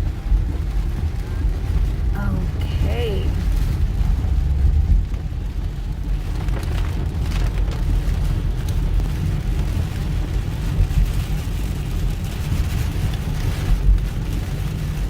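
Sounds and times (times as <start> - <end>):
car rumbling on road: 0.0 - 15.0
rain on car: 0.0 - 15.0.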